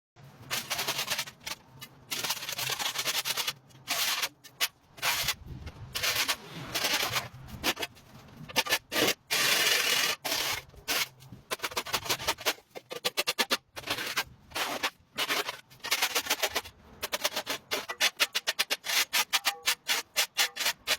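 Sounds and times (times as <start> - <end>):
scraping on concrete: 0.2 - 20.9.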